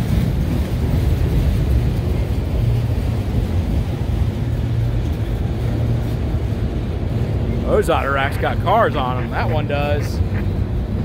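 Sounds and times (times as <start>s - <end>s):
steel wheels rumbling on rails: 0.0s - 11.0s.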